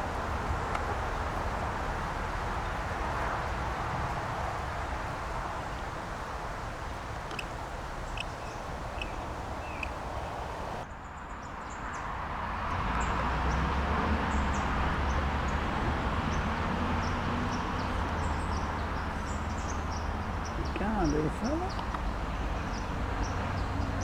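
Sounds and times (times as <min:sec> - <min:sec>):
small birds chirping: 0:00.0 - 0:10.8, 0:14.3 - 0:24.0.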